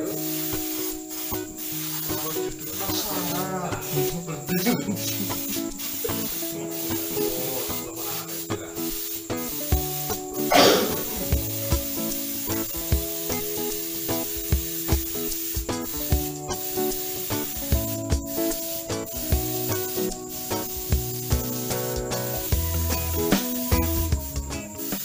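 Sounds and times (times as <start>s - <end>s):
airbrush hissing: 0.0s - 25.0s
background music with steady beat: 0.0s - 25.0s.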